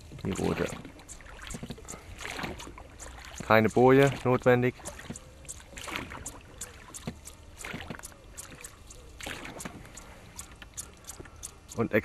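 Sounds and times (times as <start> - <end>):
paddle strokes swishing water: 0.0 - 12.0.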